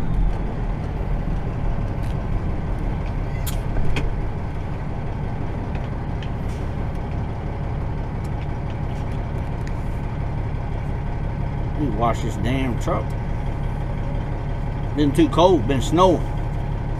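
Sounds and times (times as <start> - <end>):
diesel truck engine rumble: 0.0 - 16.9.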